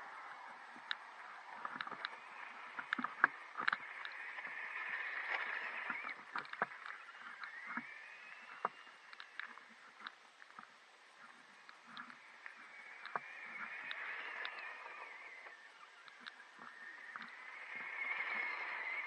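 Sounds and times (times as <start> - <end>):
gravel ticks and clicks: 0.0 - 19.0.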